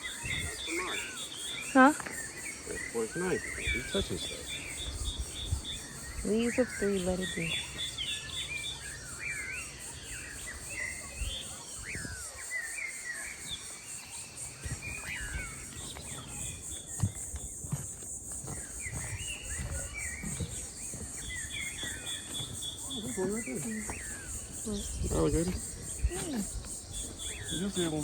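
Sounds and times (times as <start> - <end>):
birds chirping: 0.0 - 28.0
crickets and insects chorus: 0.0 - 28.0.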